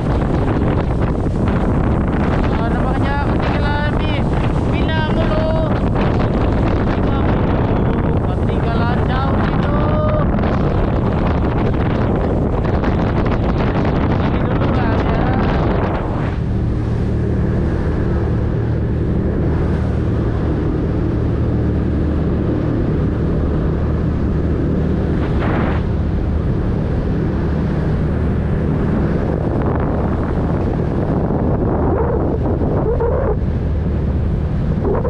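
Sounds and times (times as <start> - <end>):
boat engines droning: 0.0 - 35.0
wind buffeting microphone: 0.0 - 35.0.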